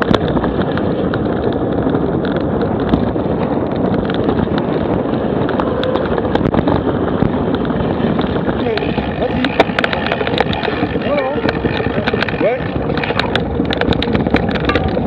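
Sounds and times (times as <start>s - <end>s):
bike tyres on gravel: 0.0s - 15.0s
small clicks and rattles: 0.0s - 15.0s
wind buffeting microphone: 0.0s - 15.0s.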